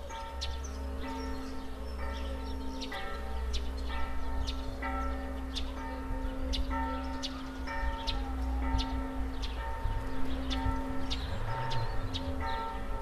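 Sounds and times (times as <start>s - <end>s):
church bell tolling: 0.0s - 13.0s.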